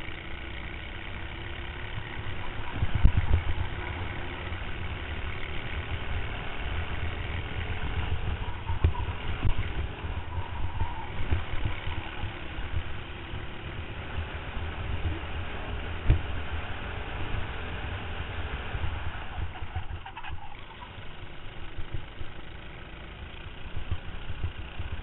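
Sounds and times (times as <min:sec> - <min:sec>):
kart engine running: 0:00.0 - 0:25.0.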